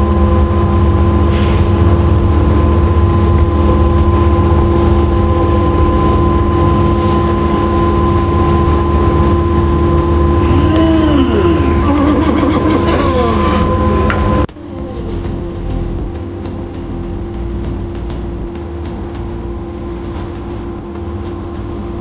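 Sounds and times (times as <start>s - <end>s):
low rumble: 0.0s - 22.0s
machine droning: 0.0s - 22.0s.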